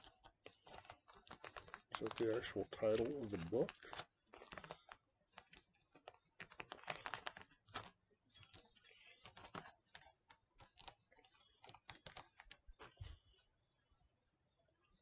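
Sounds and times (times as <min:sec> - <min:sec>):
plastic sleeves rustling and clicking: 0:00.0 - 0:13.5.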